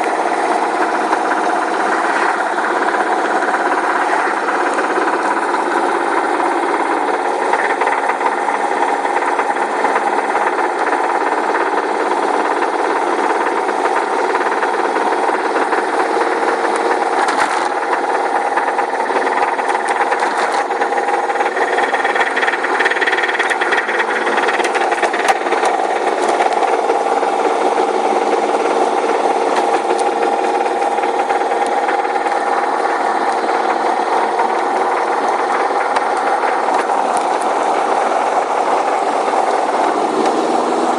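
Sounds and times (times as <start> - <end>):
car engine with knocking rattle: 0.0 - 40.9.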